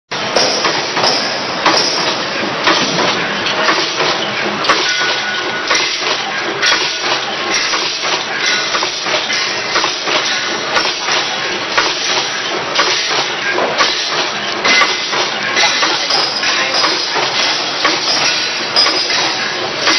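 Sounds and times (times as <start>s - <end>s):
machine clacks: 0.1s - 19.9s
packing machines clattering: 0.2s - 19.9s.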